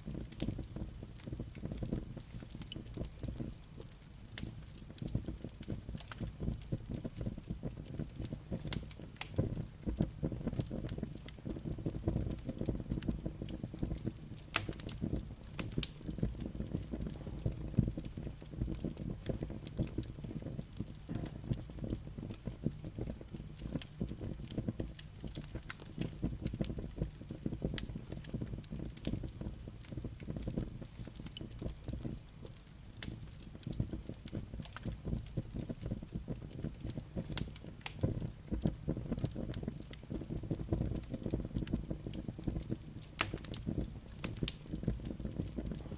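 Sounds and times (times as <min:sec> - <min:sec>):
burning logs crackling: 0:00.0 - 0:45.9
fire flames rumbling: 0:00.0 - 0:45.9.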